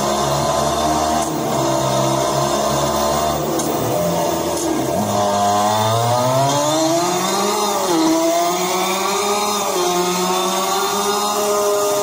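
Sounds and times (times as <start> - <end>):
emulated two-stroke engine sound: 0.0 - 12.0.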